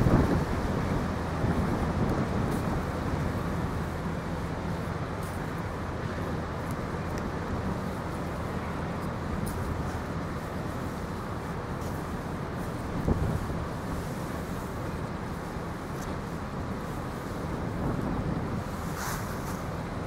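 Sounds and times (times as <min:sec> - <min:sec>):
distant motor traffic: 0:00.0 - 0:20.0
wind noise: 0:00.0 - 0:20.0.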